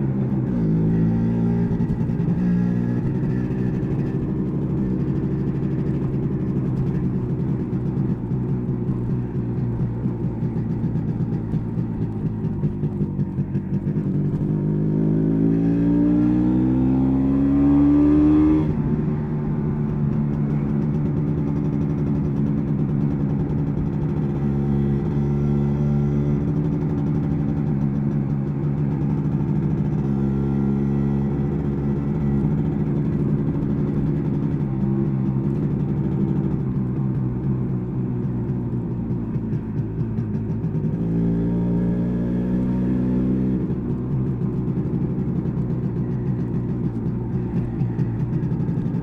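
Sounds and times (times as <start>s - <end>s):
two-stroke motorcycle engine: 0.0s - 49.0s.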